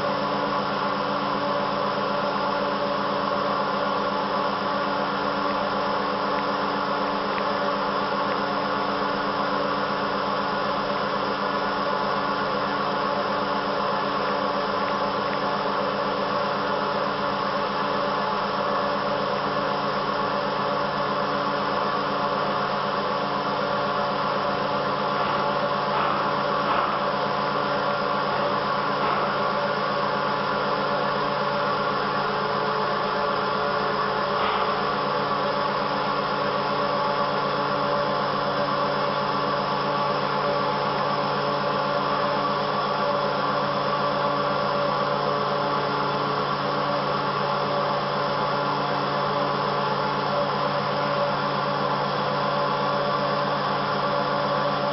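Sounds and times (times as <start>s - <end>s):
cnc router machine hum: 0.0s - 54.9s.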